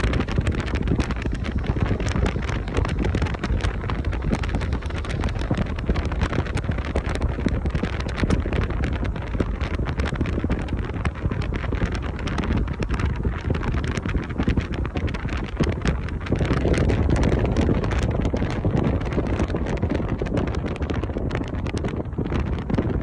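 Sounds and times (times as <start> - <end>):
car road noise: 0.0 - 23.0
crackles: 0.0 - 23.0
wind buffeting microphone: 0.0 - 23.0.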